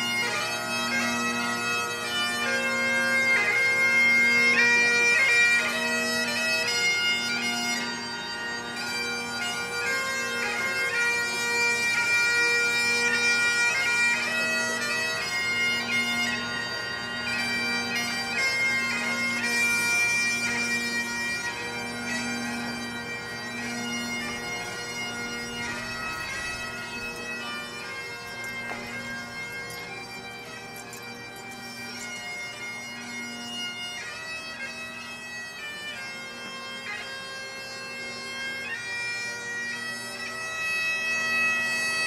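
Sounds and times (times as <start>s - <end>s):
bagpipes playing slow tune: 0.0s - 42.0s.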